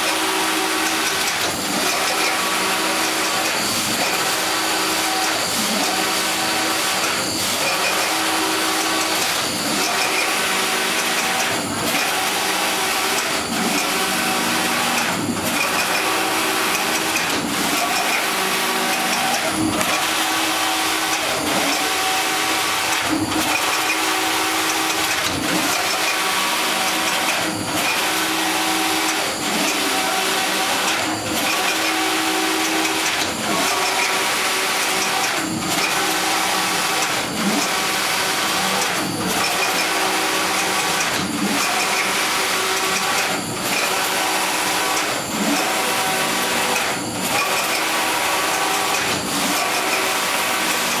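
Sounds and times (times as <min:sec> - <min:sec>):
knitting machine carriage clack: 0:00.0 - 0:51.0
knitting machine whirring: 0:00.0 - 0:51.0.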